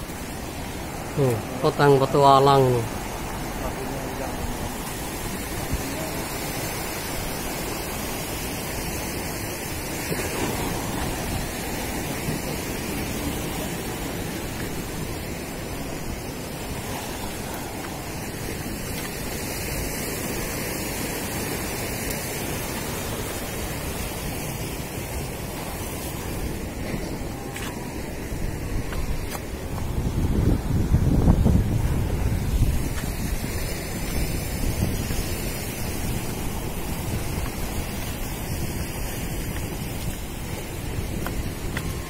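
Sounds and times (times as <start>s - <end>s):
surf breaking against rocks: 0.0s - 42.0s.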